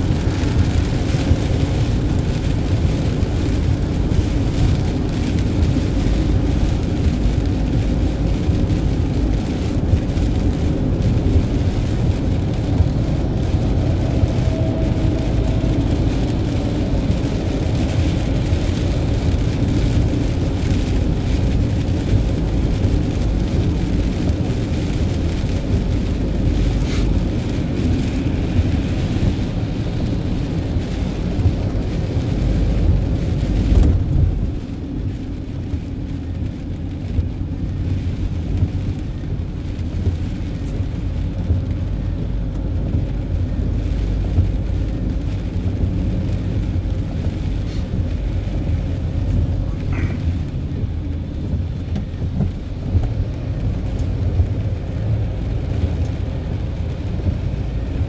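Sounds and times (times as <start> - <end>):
tyre noise on wet road: 0.0 - 58.0.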